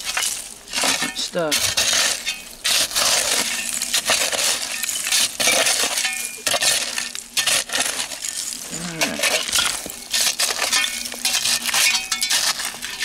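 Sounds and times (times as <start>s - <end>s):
shovel scraping into dirt: 0.0s - 13.0s.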